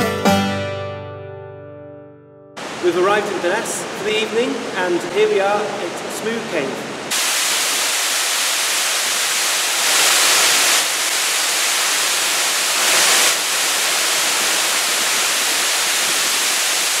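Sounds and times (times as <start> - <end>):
waterfall rushing: 2.6 - 17.0.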